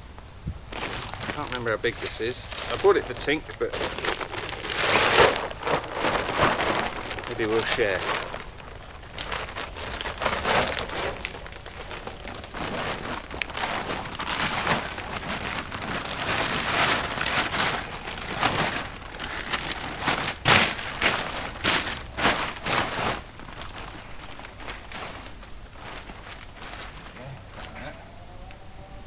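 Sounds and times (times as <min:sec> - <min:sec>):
material rustling and crinkling: 0:00.7 - 0:28.1.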